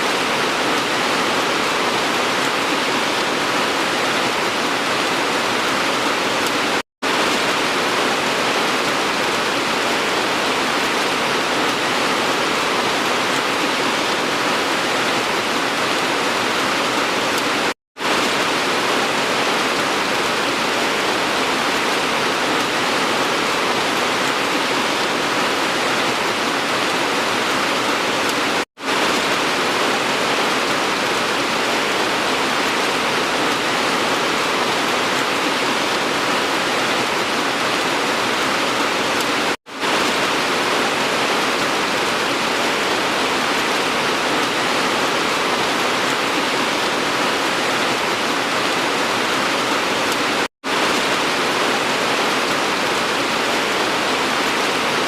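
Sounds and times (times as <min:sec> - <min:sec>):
dense rain hiss: 0:00.0 - 0:55.0.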